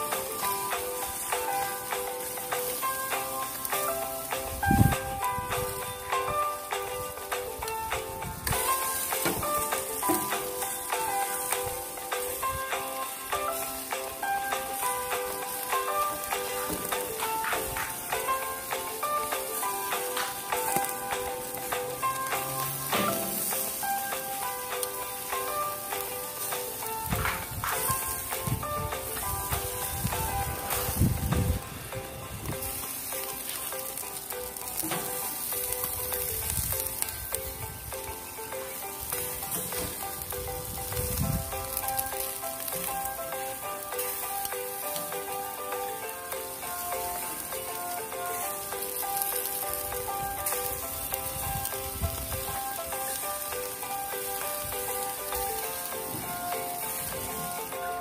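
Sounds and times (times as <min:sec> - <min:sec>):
background music with melody: 0:00.0 - 0:58.0
meat sizzling on a grill: 0:00.0 - 0:58.0.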